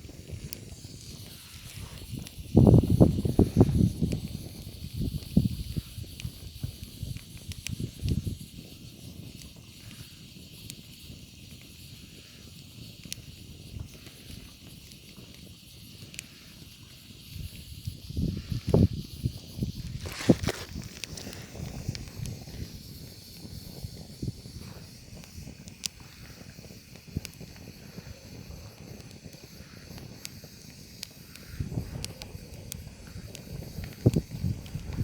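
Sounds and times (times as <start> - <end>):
rain hissing: 0.0 - 35.0
faint ticks: 0.2 - 35.0.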